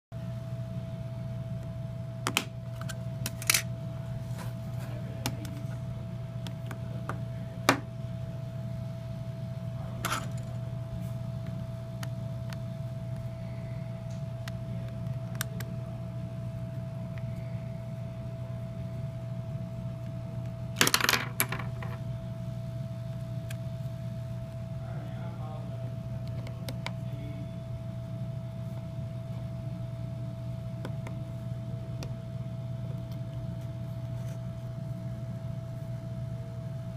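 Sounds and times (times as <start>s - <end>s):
low electrical hum: 0.2s - 36.9s.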